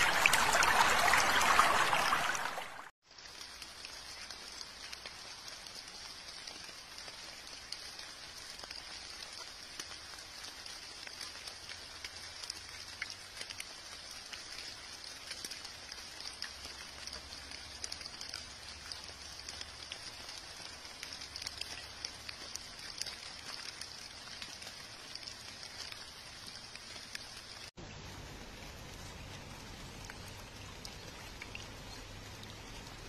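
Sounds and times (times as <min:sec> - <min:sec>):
light rain pattering on leaves: 0:00.0 - 0:33.0.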